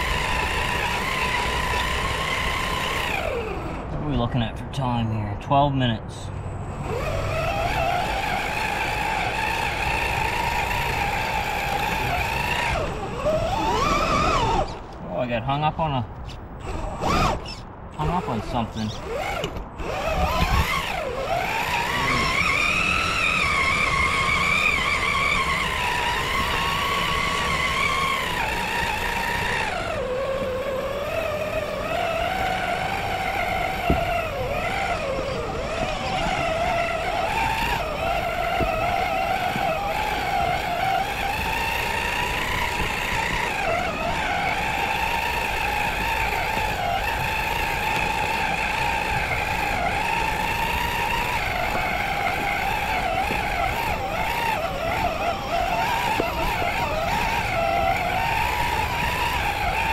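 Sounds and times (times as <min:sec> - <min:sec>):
electric motor whining: 0:00.0 - 0:04.2, 0:06.3 - 0:15.0, 0:16.2 - 0:59.9.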